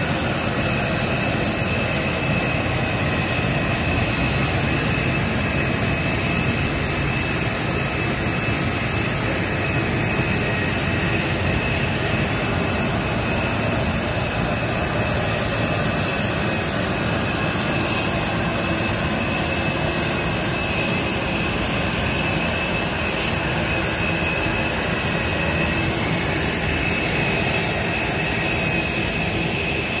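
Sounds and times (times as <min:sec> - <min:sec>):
jet turbine whine: 0:00.0 - 0:30.0.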